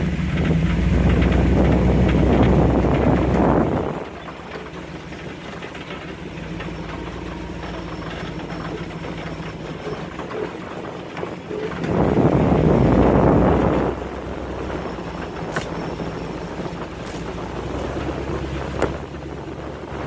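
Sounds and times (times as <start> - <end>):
vehicle engine running at low revs: 0.0 - 20.0
wind rumble on microphone: 0.0 - 20.0.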